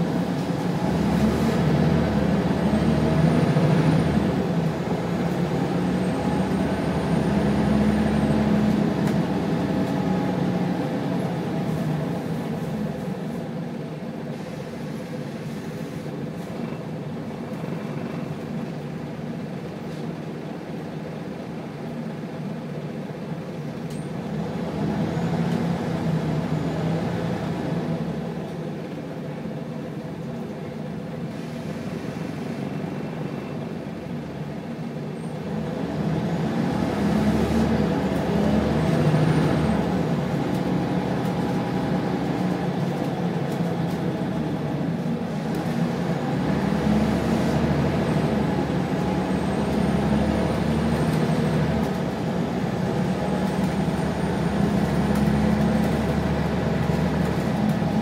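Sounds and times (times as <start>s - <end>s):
bus diesel engine running: 0.0s - 58.0s
road and body rumble: 0.0s - 58.0s.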